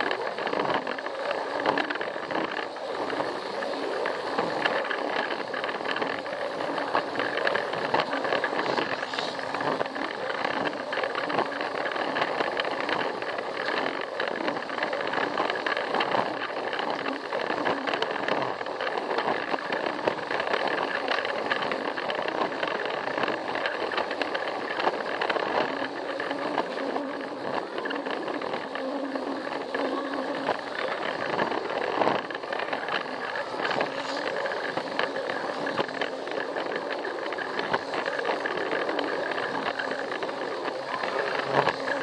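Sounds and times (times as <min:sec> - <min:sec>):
toy train motor whirring: 0:00.0 - 0:42.0
wheels clattering on plastic track: 0:00.0 - 0:42.0.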